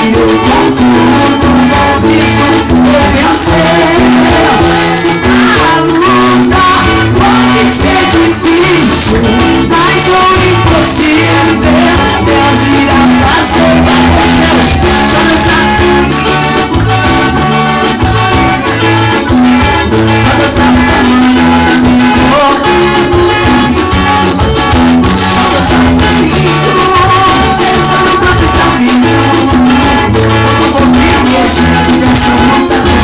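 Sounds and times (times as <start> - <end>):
bass line: 0.0 - 33.0
upbeat gospel praise music: 0.0 - 33.0.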